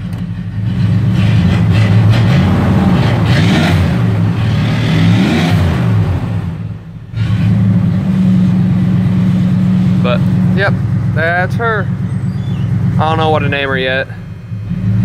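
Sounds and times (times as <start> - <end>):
truck engine revving and idling: 0.0 - 15.0.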